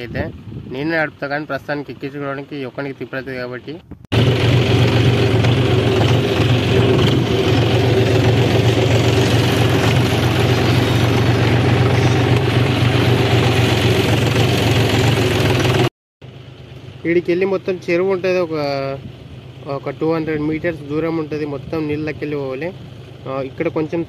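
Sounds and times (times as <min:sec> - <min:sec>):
tractor diesel engine running: 0:04.1 - 0:24.0.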